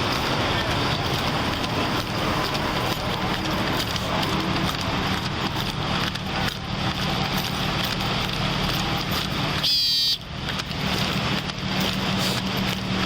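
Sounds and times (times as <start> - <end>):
traffic and idling vehicles: 0.0 - 13.0.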